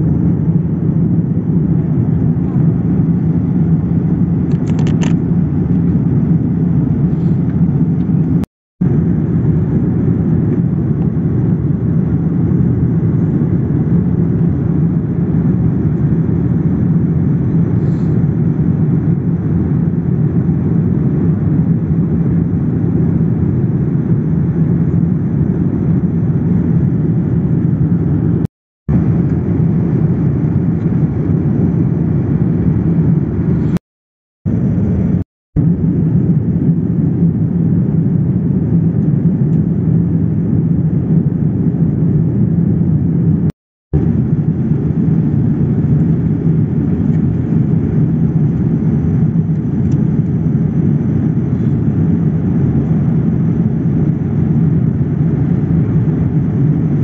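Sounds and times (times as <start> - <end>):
airliner cabin rumble: 0.0 - 33.8, 34.5 - 57.0.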